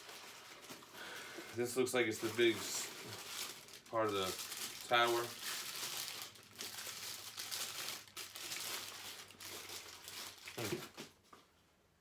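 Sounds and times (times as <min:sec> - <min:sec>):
packaging wrap crinkling: 0:00.0 - 0:11.3.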